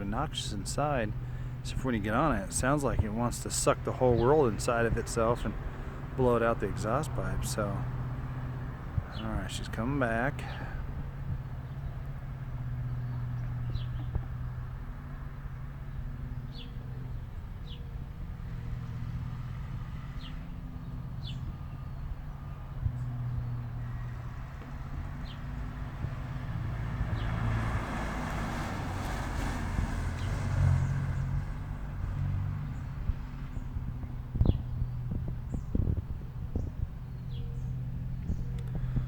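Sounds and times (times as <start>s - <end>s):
car exhaust rumble: 0.0s - 39.0s
small birds chirping: 0.8s - 27.6s, 30.0s - 39.0s.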